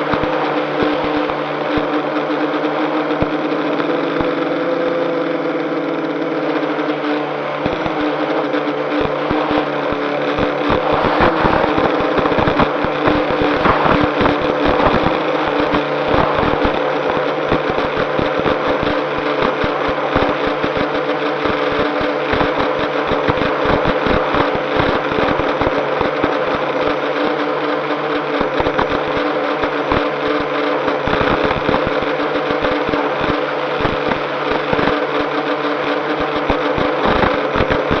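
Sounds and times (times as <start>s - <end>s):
drone propellers whirring: 0.0s - 38.0s.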